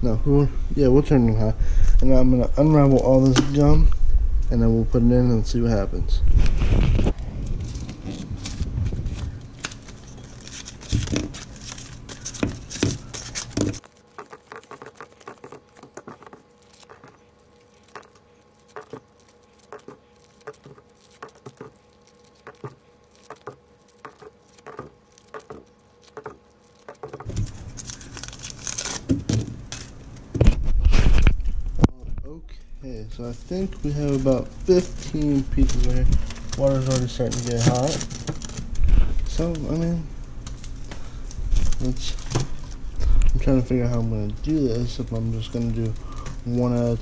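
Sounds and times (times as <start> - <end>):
paper wrappers tearing and crinkling: 6.4 - 31.6, 33.0 - 47.0.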